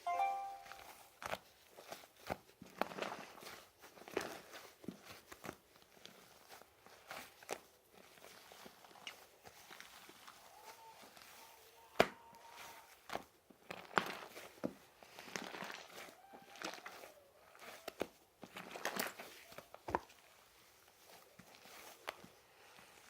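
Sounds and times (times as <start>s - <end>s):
slime squelching: 0.7s - 23.0s.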